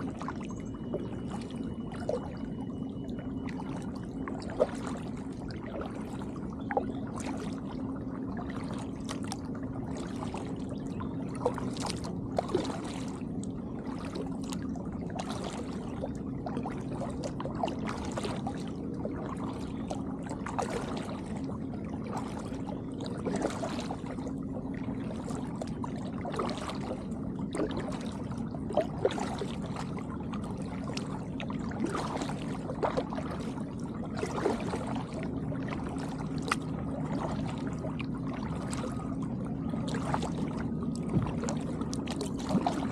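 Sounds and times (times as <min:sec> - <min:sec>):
paddle splashing in water: 0:00.0 - 0:42.9
steady low hum: 0:00.0 - 0:42.9.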